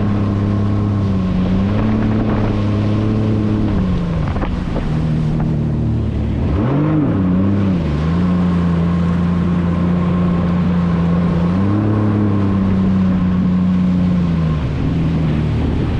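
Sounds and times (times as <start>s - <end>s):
jet ski engine running: 0.0s - 15.9s.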